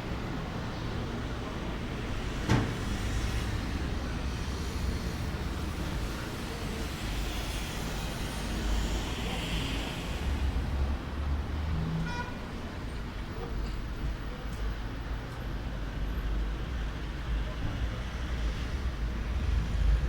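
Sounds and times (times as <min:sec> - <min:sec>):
distant road traffic rumble: 0:00.1 - 0:20.0.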